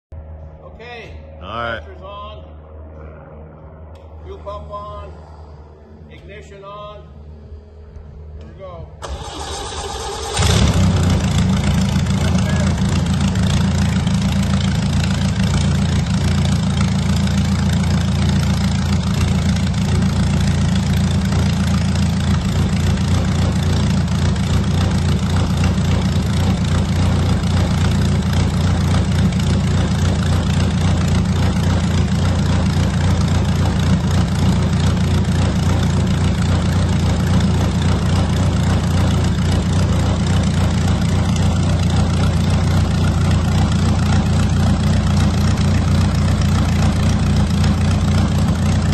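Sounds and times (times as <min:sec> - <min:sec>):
aircraft engine idling: 0:02.4 - 0:48.9.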